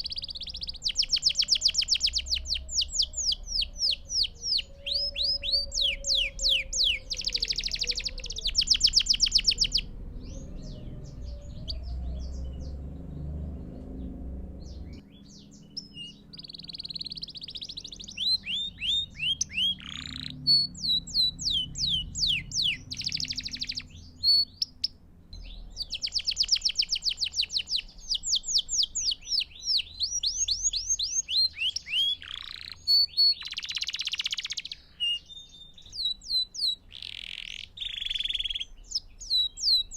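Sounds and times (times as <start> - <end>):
canary singing trills: 0.0 - 39.9
faint low rumble: 0.0 - 39.9.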